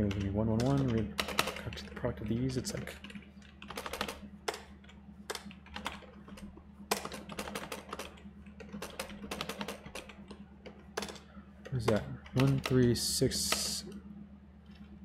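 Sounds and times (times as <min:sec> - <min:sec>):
keyboard typing: 0:00.0 - 0:14.0
steady low hum: 0:00.0 - 0:15.0.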